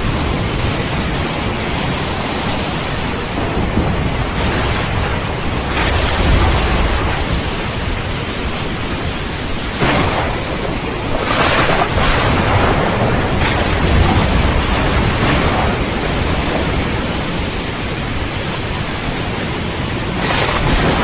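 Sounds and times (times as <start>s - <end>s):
steady rain: 0.0s - 21.0s
thunder rumbling: 0.0s - 21.0s.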